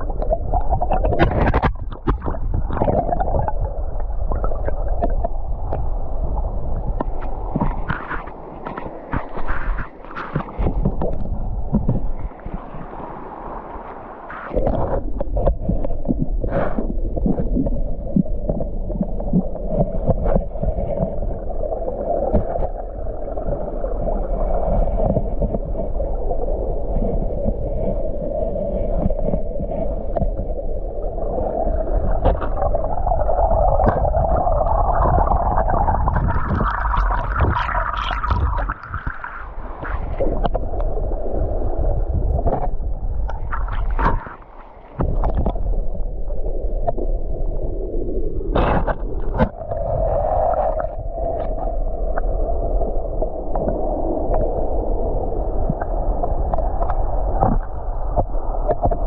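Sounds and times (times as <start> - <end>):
muffled underwater river rush: 0.0 - 59.0.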